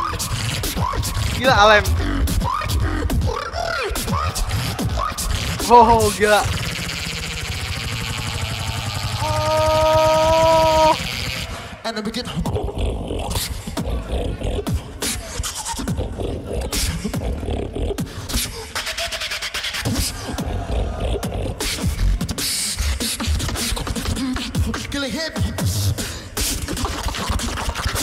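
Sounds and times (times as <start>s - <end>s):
beatboxing into a microphone: 0.0s - 28.0s.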